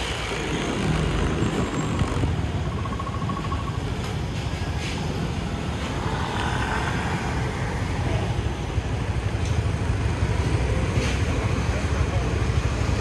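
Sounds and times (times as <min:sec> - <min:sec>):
motor scooter engine rumble: 0:00.0 - 0:13.0
passing vehicles: 0:00.0 - 0:13.0.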